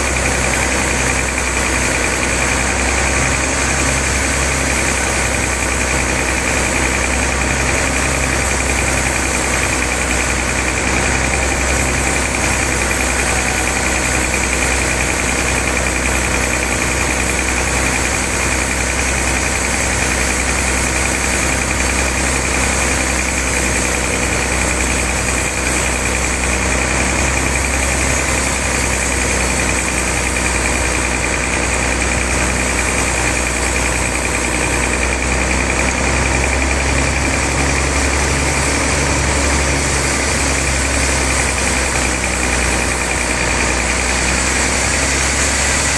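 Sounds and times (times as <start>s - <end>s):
high machine whine: 0.0s - 45.9s
sawmill machinery drone: 0.0s - 45.9s.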